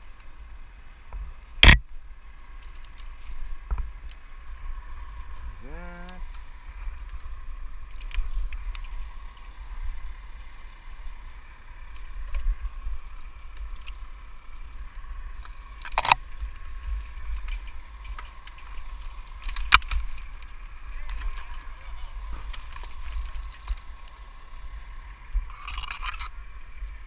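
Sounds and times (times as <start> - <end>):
sharp clicks and rustles: 1.1 - 4.2, 5.1 - 24.6, 25.2 - 27.0.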